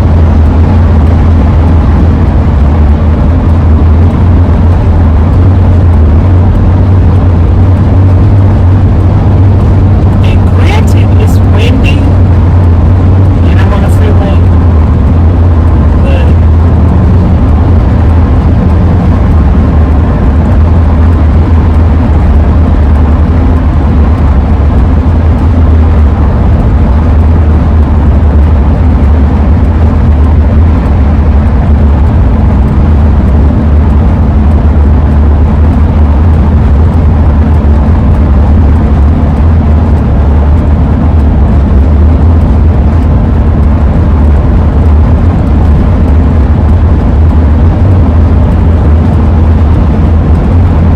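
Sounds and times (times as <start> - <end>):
van cabin road rumble: 0.0 - 50.9.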